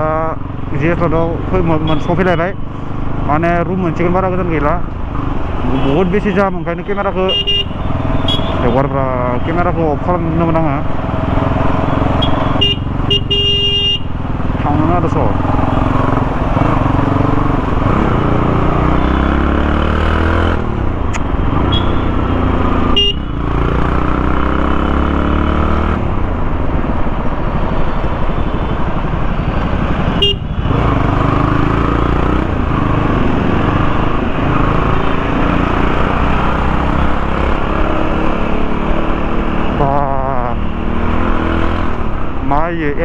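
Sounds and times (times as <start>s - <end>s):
motorcycle engine: 0.0s - 43.0s.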